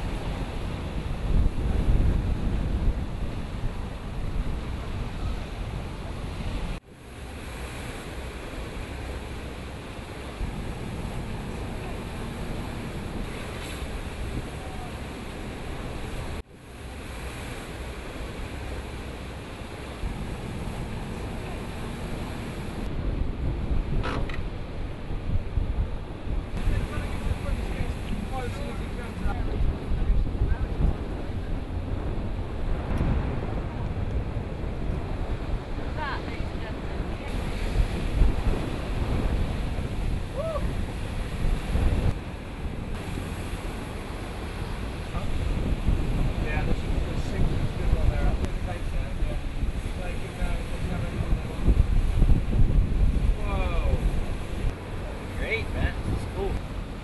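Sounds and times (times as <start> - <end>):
ocean waves and surf: 0.0 - 57.0
wind and sea rushing: 0.0 - 57.0
wind buffeting microphone: 0.0 - 57.0.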